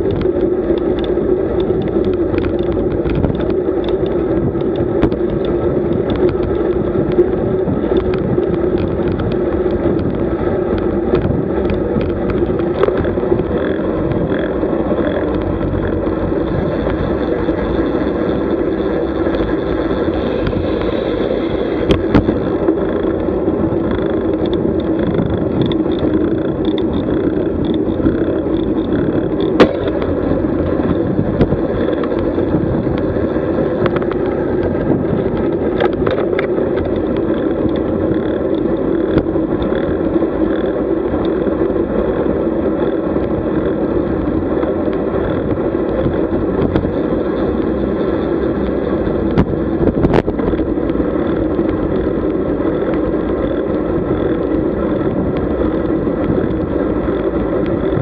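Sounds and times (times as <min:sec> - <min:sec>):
bike knocks and rattles: 0:00.0 - 0:58.0
wind and road noise rumble: 0:00.0 - 0:58.0.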